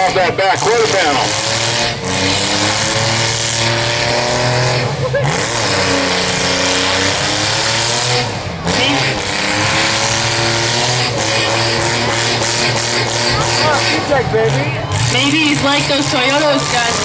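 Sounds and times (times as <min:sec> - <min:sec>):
car engines revving hard: 0:00.0 - 0:17.0
engine and tyre noise: 0:00.0 - 0:17.0.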